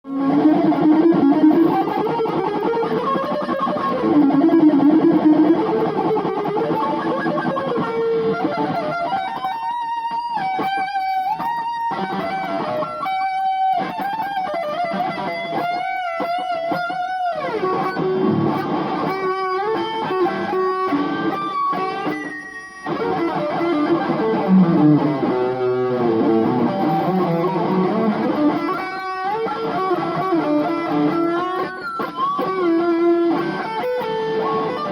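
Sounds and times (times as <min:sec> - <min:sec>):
electric guitar rock solo: 0:00.0 - 0:34.9.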